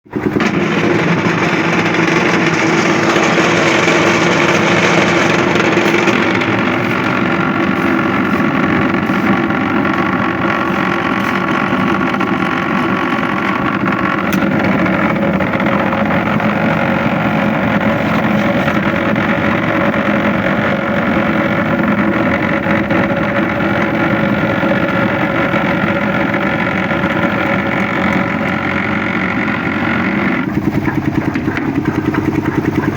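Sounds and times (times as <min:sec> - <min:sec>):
machinery engine humming: 0:00.0 - 0:32.9.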